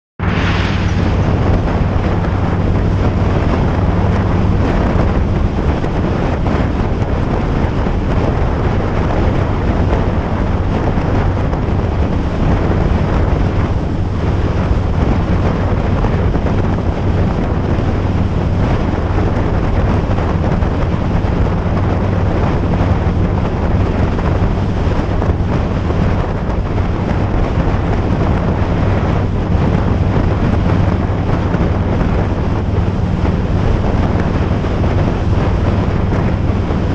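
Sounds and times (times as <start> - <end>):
steady low hum: 0.2 - 36.9
wind rushing over microphone: 0.2 - 36.9.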